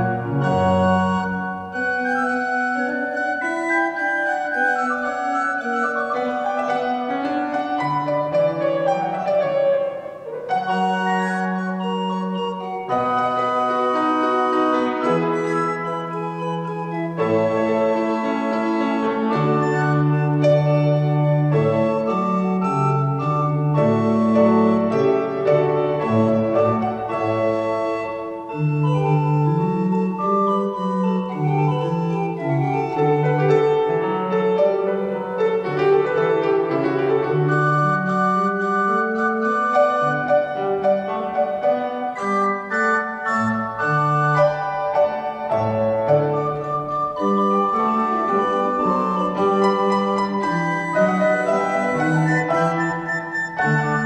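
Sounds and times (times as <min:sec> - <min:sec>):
organ playing: 0:00.0 - 0:54.0
upright piano playing: 0:00.0 - 0:54.0.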